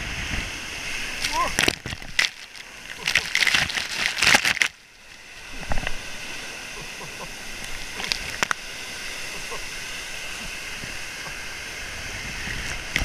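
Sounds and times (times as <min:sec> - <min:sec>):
water running over slide: 0:00.0 - 0:13.0
water splashing: 0:00.0 - 0:13.0.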